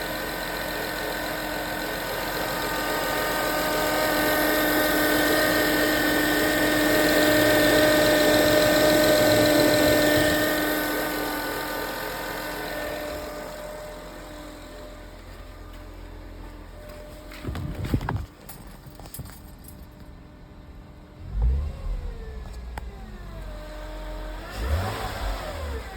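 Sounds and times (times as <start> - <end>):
car engine running: 0.0 - 19.1, 21.2 - 25.9
alternator whirring whine: 0.0 - 25.9.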